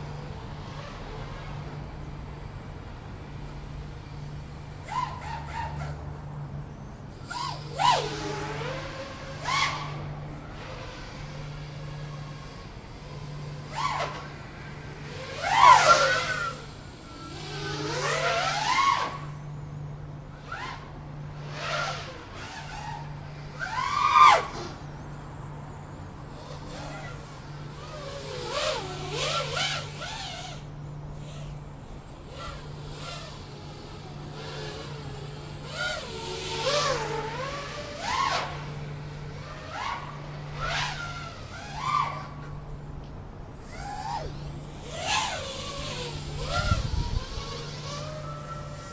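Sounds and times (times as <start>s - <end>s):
drone motors whining: 0.0s - 48.9s.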